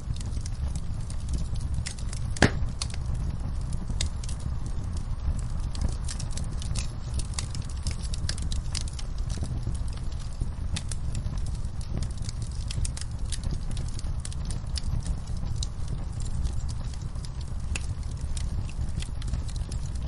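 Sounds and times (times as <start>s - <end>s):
campfire wood crackling: 0.0s - 20.0s
low fire rumble: 0.0s - 20.0s
sharp pops of burning wood: 0.1s - 20.0s.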